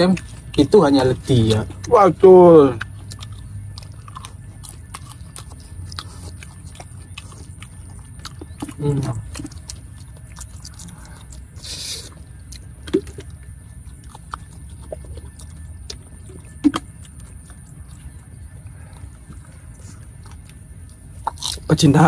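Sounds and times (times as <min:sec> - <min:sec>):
chewing: 0:00.0 - 0:22.0
steady low rumble: 0:00.0 - 0:22.0.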